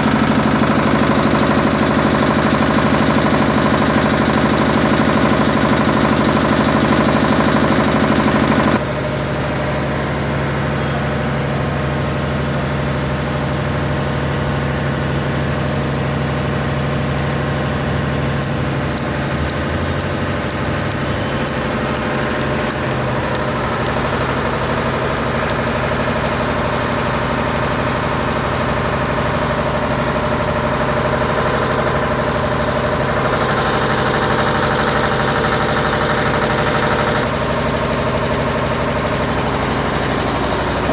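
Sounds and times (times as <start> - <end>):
diesel generator engine running: 0.0 - 40.9.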